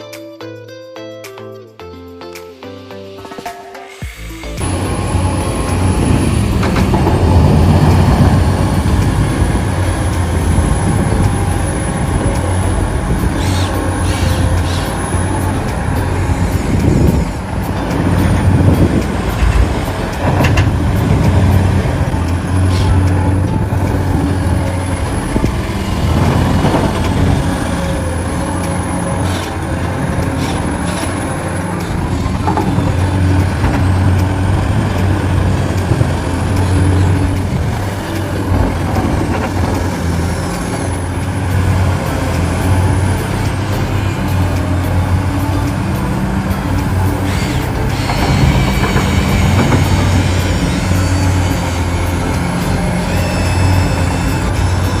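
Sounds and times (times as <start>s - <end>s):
dump truck engine humming: 3.8s - 55.0s.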